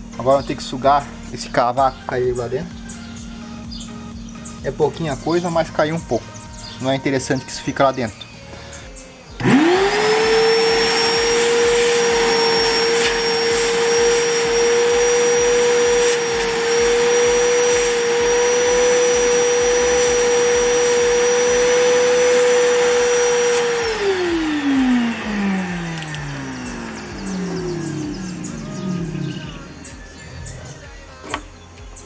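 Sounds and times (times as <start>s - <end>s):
vacuum cleaner whine: 0.0s - 32.0s.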